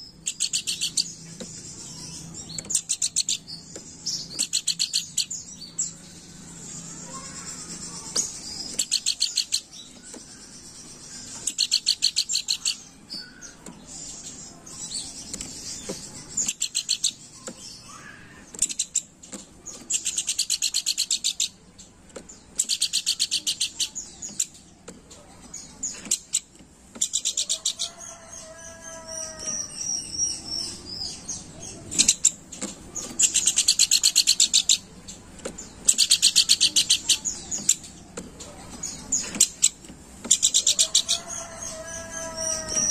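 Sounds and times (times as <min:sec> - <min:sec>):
bird chattering trills: 0:00.0 - 0:42.9.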